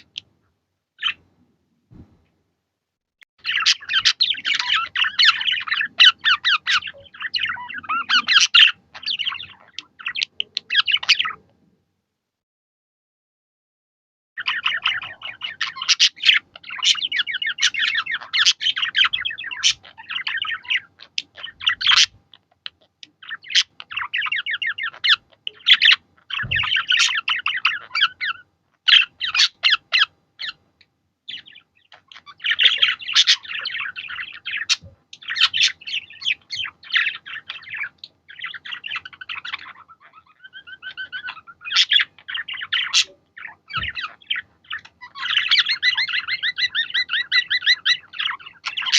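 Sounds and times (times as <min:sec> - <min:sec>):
budgerigars chattering and warbling: 0:00.0 - 0:00.3, 0:01.0 - 0:01.2, 0:03.4 - 0:11.5, 0:14.4 - 0:30.6, 0:31.3 - 0:48.9.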